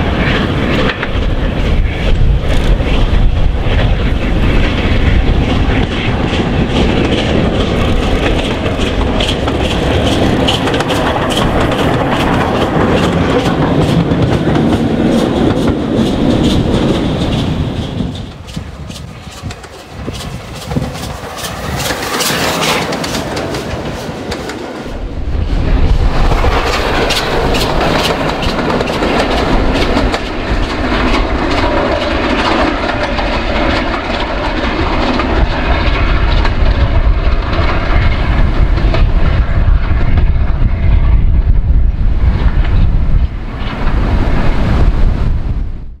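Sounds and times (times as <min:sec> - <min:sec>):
train wheels clacking over rail joints: 0:00.0 - 0:25.1, 0:25.9 - 0:40.6
wind buffeting microphone: 0:00.0 - 0:46.0.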